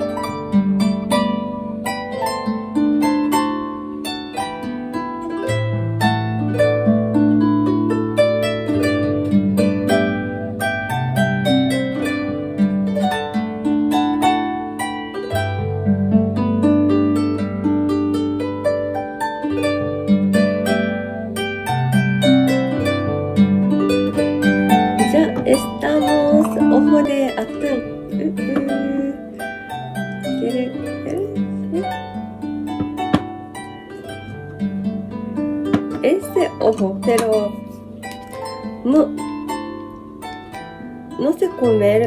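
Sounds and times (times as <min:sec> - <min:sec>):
solo harp music: 0:00.0 - 0:42.0.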